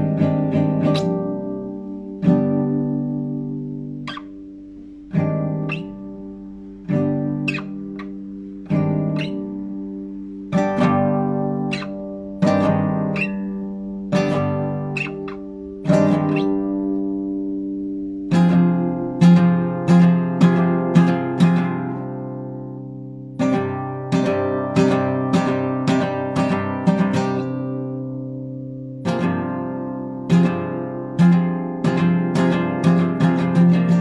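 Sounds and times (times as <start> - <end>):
classical guitar playing: 0.0 - 34.0.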